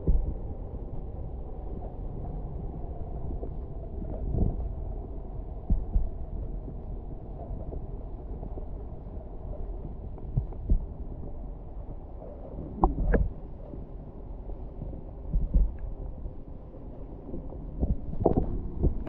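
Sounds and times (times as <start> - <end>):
faint steady hum: 0.0 - 19.0
muffled underwater rumble: 0.0 - 19.0.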